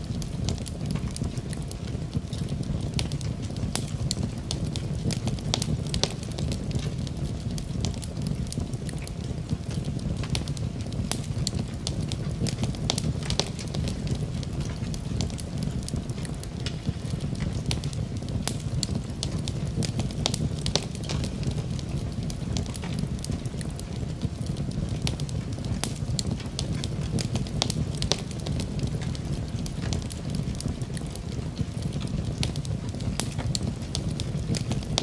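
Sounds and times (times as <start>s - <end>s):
fire pops and snaps: 0.0s - 35.0s
low fire rumble: 0.0s - 35.0s
wood fire crackling: 0.0s - 35.0s.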